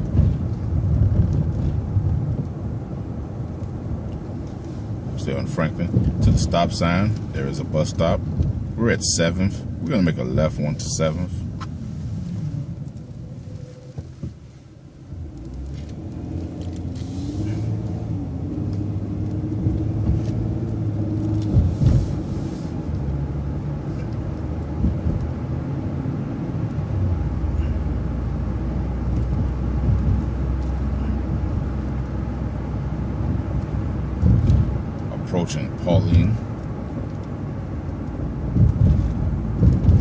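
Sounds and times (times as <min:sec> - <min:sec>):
bus engine running: 0:00.0 - 0:40.0
steady low rumble: 0:00.0 - 0:40.0.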